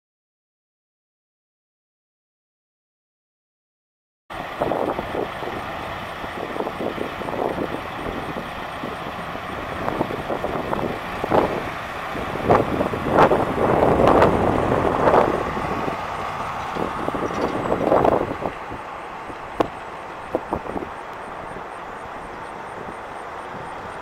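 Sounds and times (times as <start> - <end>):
pickup truck driving by: 4.3 - 24.0.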